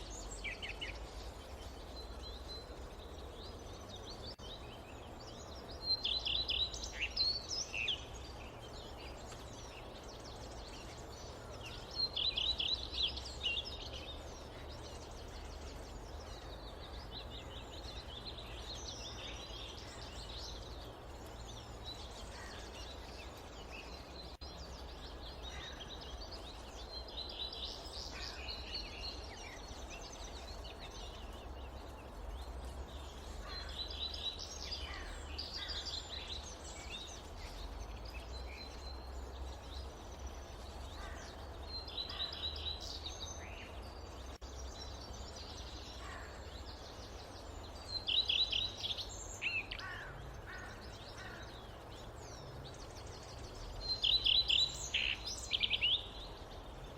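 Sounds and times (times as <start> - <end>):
songbirds chirping and calling: 0.0 - 56.9.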